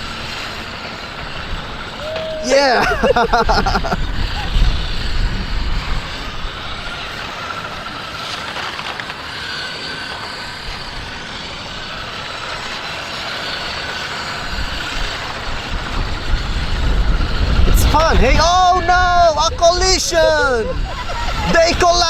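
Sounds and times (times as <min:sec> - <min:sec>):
steady background noise: 0:00.0 - 0:22.0
toy car electric motors whining: 0:00.0 - 0:22.0.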